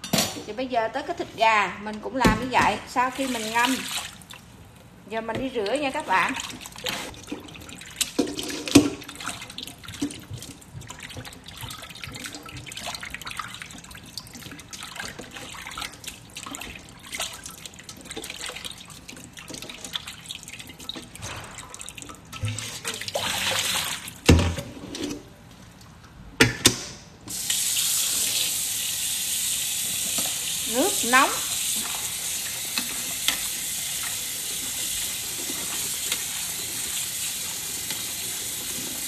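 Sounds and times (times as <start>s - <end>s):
tap water running: 2.2s - 25.0s, 27.3s - 39.0s.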